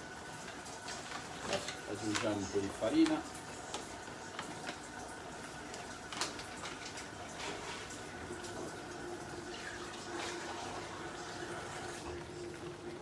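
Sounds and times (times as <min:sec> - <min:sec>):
food boiling and bubbling: 0:00.0 - 0:13.0.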